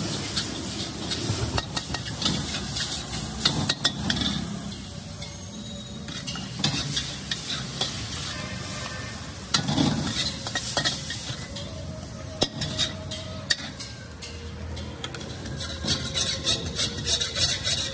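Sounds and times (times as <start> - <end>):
spatula scraping a wok: 0.0 - 14.4, 15.1 - 17.9
noodles sizzling in a wok: 0.0 - 14.6, 15.4 - 17.9
spatula clanging against wok: 0.2 - 5.5, 6.1 - 8.8, 9.4 - 17.9.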